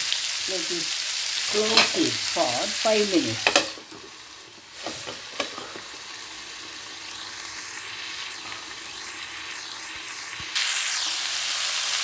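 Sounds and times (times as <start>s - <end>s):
food sizzling under a lid: 0.0s - 12.0s.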